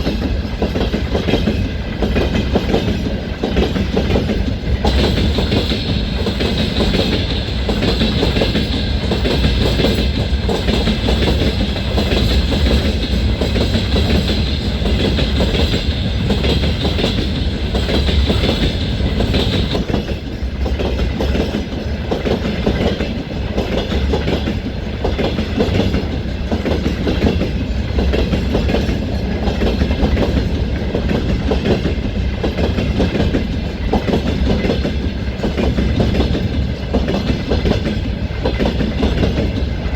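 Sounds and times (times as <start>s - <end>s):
train wheels clattering over rails: 0.0s - 39.9s
wheel and rail hiss: 0.0s - 39.9s.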